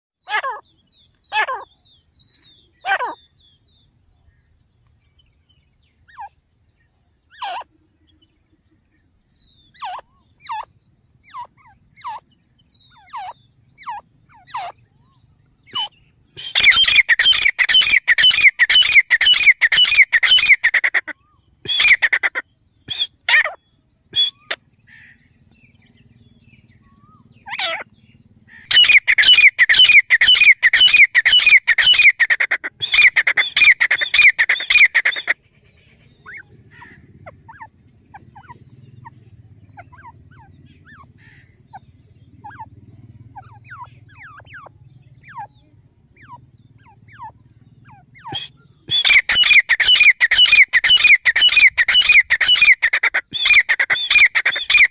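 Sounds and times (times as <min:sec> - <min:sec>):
francolin calling: 0:00.2 - 0:54.9.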